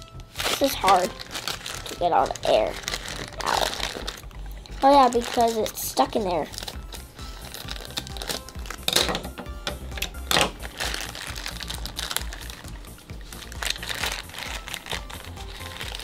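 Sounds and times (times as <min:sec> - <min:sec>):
background music: 0:00.0 - 0:16.0
plastic bag crinkling: 0:00.0 - 0:16.0.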